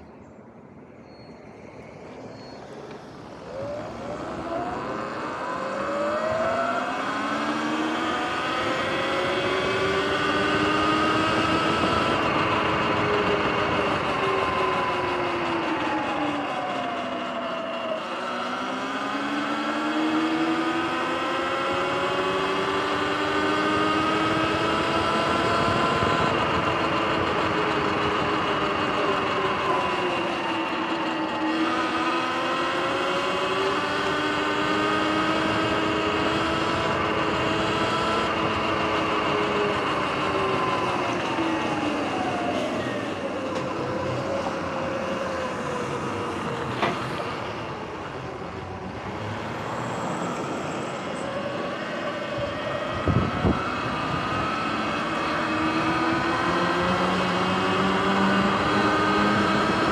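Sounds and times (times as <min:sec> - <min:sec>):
rushing wind: 0:00.0 - 0:59.9
electric dirt bike motor whine: 0:02.1 - 0:59.9.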